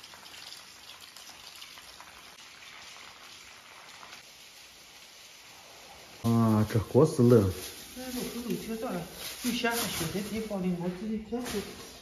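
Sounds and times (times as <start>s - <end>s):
light rain on wet concrete: 0.0s - 12.0s.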